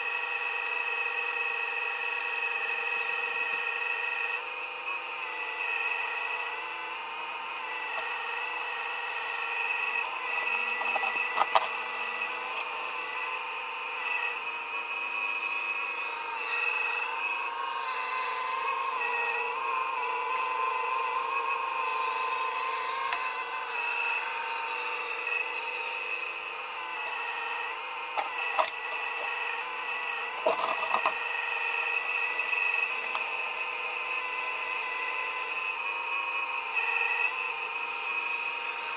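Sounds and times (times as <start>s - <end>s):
machine high whine: 0.0s - 38.9s.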